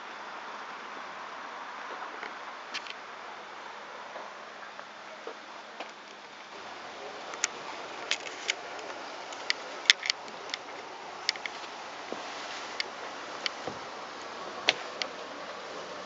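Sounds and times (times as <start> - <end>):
low hiss: 0.0 - 16.0.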